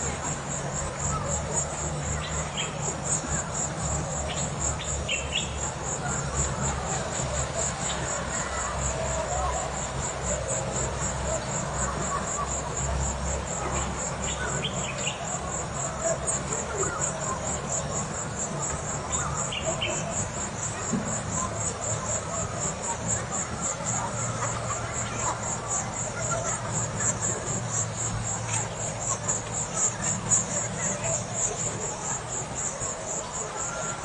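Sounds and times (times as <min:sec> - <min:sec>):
insects trilling: 0:00.0 - 0:34.0
river ambience: 0:00.0 - 0:34.0.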